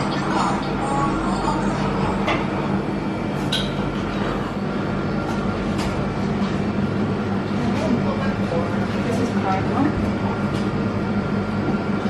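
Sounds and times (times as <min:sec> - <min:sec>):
vending machine humming: 0:00.0 - 0:12.0.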